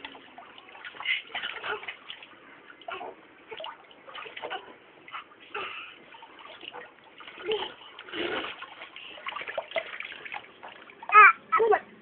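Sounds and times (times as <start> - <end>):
water splashing and dripping: 0.0 - 11.4.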